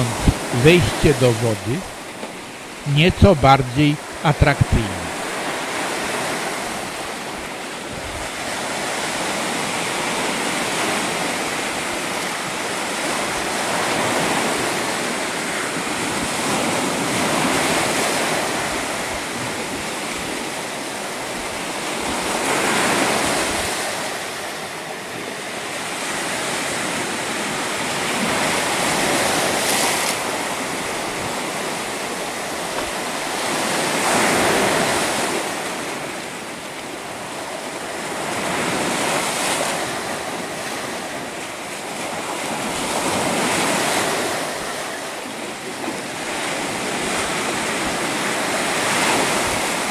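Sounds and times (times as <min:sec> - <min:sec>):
sea waves breaking on a beach: 0:00.0 - 0:49.9.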